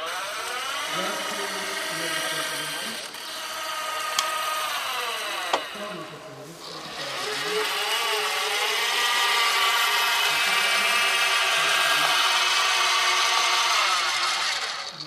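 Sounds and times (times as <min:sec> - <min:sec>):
robot arm motors whining: 0:00.0 - 0:15.0.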